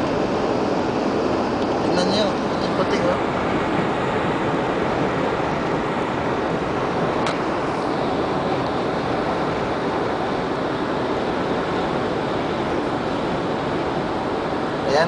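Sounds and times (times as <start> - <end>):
wind and tyre noise in car: 0.0 - 15.0.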